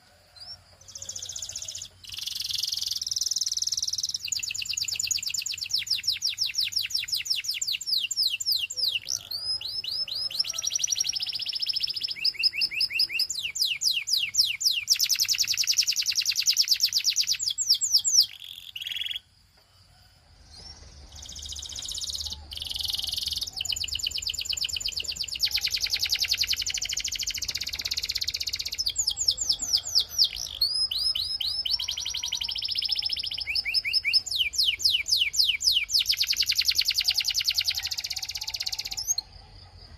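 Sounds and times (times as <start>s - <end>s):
canary singing in trills: 0.0s - 19.3s, 20.4s - 39.9s.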